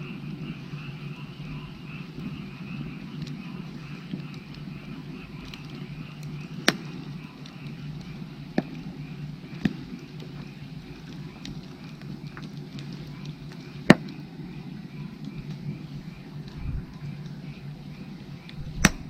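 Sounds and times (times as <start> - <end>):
firewood crackling and popping: 0.0 - 19.0
frogs calling: 0.0 - 19.0.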